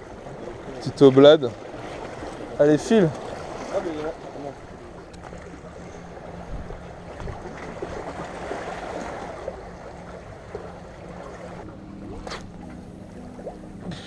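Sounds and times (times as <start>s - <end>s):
waves lapping against rocks: 0.0s - 12.8s
low steady hum: 0.0s - 14.0s.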